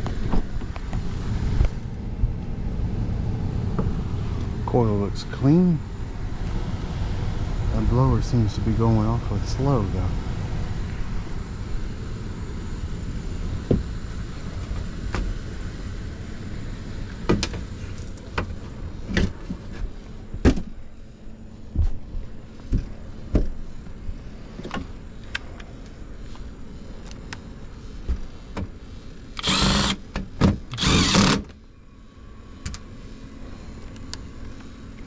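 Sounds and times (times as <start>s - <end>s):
blower humming: 0.0s - 35.0s.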